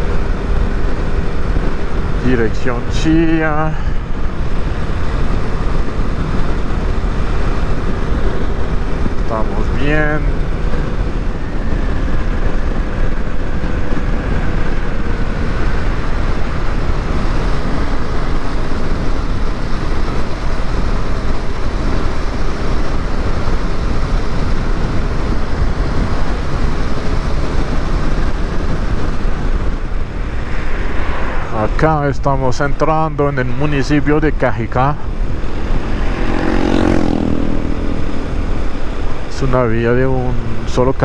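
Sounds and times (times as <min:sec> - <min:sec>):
motorcycle engine cruising: 0:00.0 - 0:41.0
road noise: 0:00.0 - 0:41.0
wind noise: 0:00.0 - 0:41.0.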